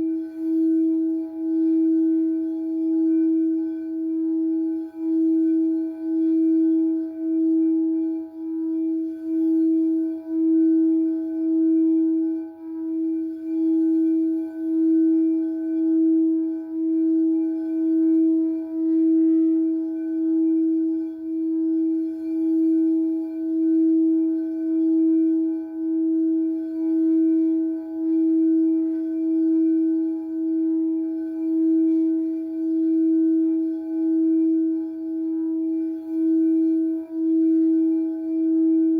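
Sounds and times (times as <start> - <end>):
singing bowl tone: 0.0 - 38.9.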